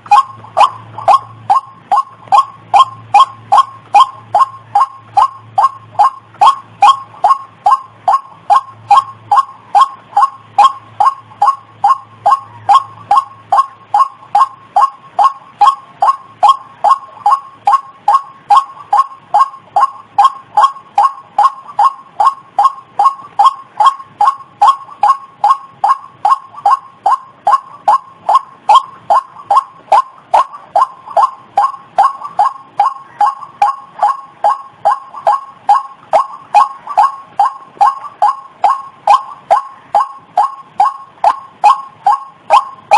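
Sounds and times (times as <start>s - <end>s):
waterhen call: 0.0s - 42.9s.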